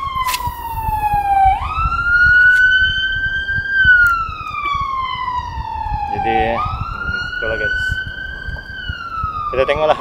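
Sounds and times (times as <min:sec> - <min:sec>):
low rumble: 0:00.0 - 0:09.6
wailing siren: 0:00.0 - 0:10.0.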